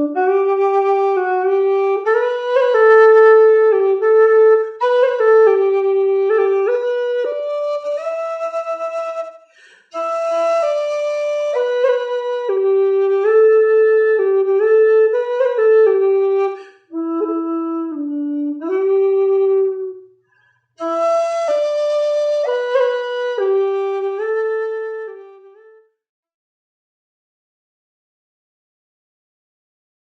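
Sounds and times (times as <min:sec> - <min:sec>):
solo woodwind slow melody: 0:00.0 - 0:20.2, 0:20.8 - 0:26.0.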